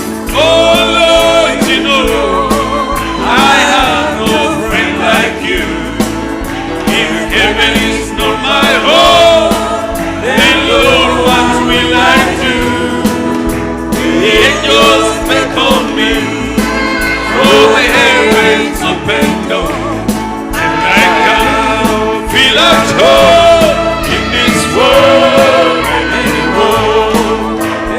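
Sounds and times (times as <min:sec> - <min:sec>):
gospel singing: 0:00.0 - 0:27.9
instrumental accompaniment: 0:00.0 - 0:27.9.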